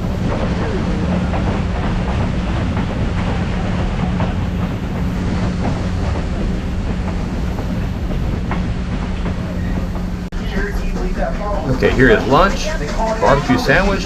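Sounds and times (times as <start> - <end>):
train rumbling along track: 0.0 - 14.0
wheel clatter over rails: 0.0 - 14.0.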